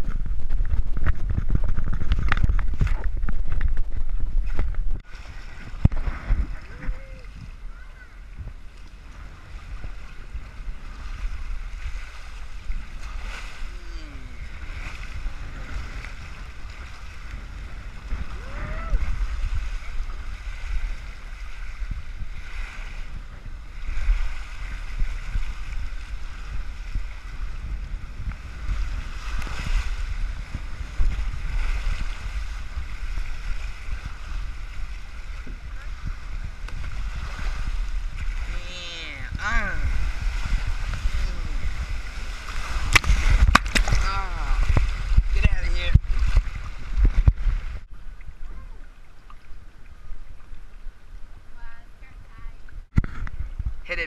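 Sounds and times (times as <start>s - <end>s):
moving water rumble: 0.0s - 54.0s
wind buffeting microphone: 0.0s - 54.0s.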